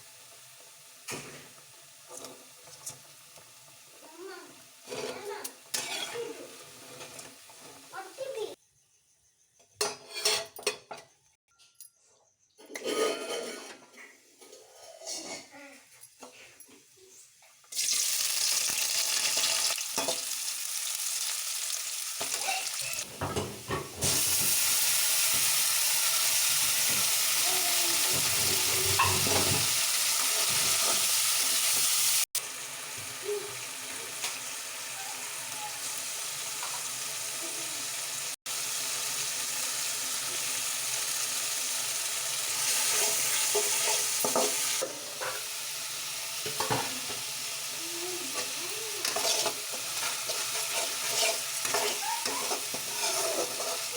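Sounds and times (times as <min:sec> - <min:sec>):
food sizzling in hot oil: 0:00.0 - 0:08.6, 0:17.6 - 0:53.9.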